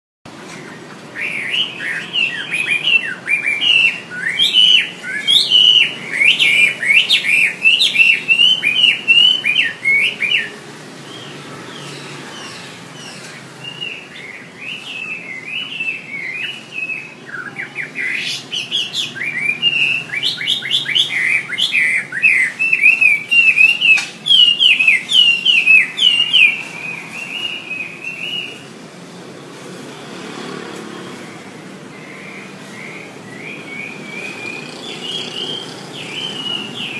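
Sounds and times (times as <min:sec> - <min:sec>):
bird singing whistled phrases: 0:01.2 - 0:28.6, 0:31.9 - 0:36.9.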